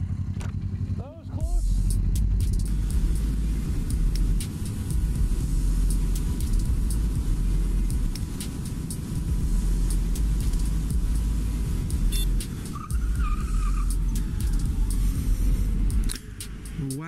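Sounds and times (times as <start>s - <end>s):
wind and motorcycle engine rumble: 0.0s - 17.0s.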